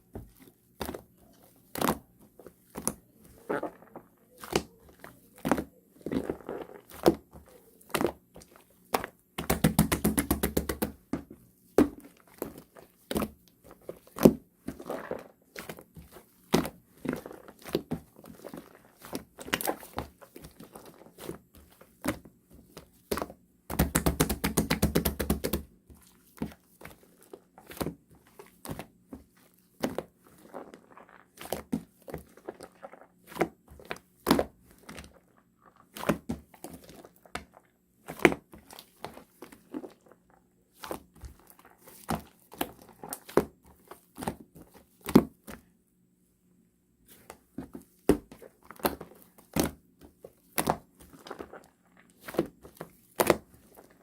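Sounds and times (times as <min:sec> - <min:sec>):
slime squished by hand: 0:00.1 - 0:45.7.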